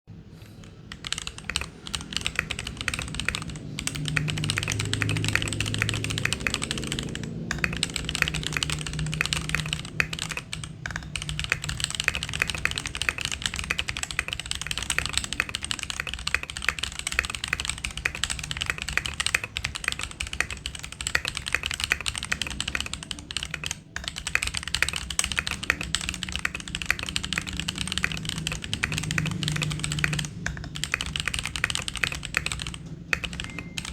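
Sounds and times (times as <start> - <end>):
typing on mechanical keyboard: 0.3 - 33.9.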